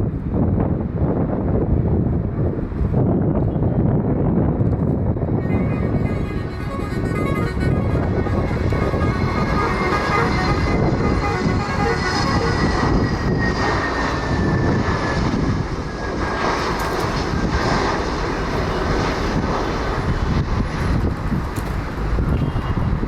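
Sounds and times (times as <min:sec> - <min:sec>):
airliner engines roaring: 0:00.0 - 0:23.0
high engine whine: 0:00.0 - 0:23.0.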